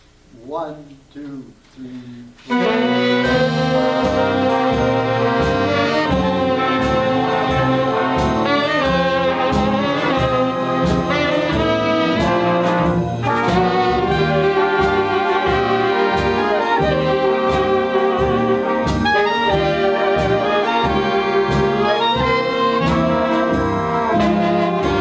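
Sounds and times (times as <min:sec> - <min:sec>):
drum steady beat: 0:02.3 - 0:25.0
horn section playing jazz tune: 0:02.4 - 0:25.0.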